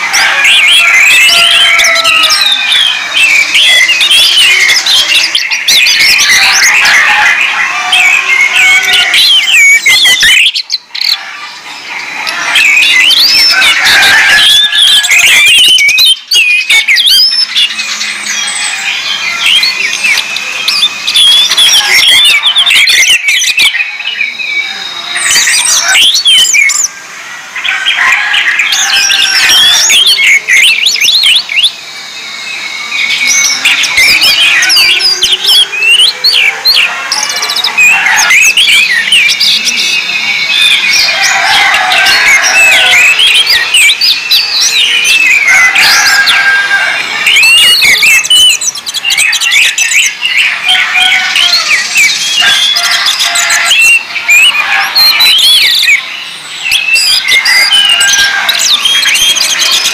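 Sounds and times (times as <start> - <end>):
thrushes singing: 0.0 - 59.9.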